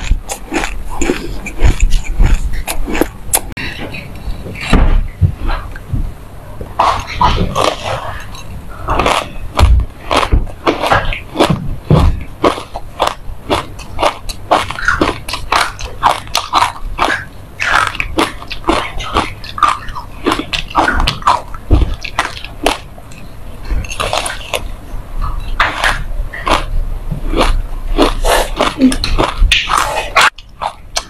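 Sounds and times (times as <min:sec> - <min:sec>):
crisp crunchy chewing: 0:00.0 - 0:04.7, 0:06.8 - 0:31.0.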